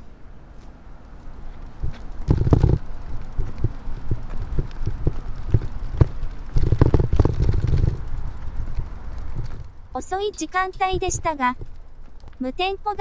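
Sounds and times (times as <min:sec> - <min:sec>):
footsteps on pavement: 0:00.0 - 0:09.8, 0:11.1 - 0:12.7
bicycle clatter: 0:01.3 - 0:13.0.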